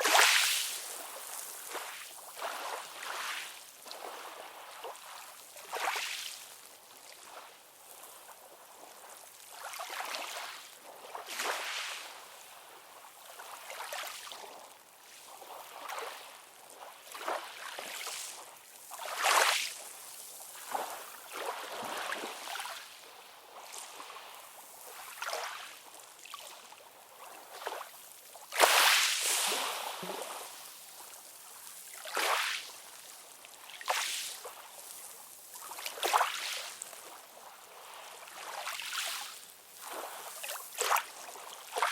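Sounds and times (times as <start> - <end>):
ocean water lapping and splashing: 0.0 - 41.9.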